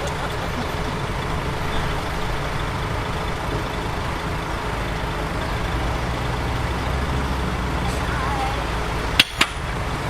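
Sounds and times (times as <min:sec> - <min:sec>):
heavy diesel machinery engine drone: 0:00.0 - 0:10.0.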